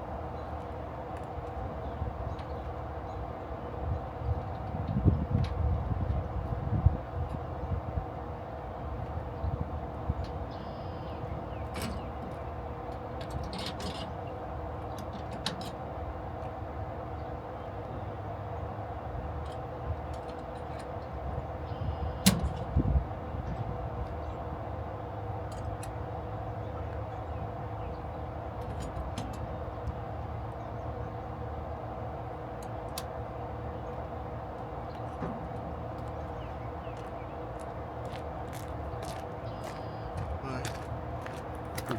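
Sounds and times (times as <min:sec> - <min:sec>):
steady mechanical hum: 0:00.0 - 0:41.9.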